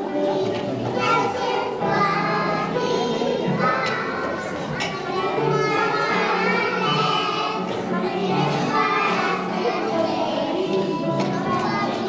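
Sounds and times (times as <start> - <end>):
children's choir singing: 0.0 - 12.0.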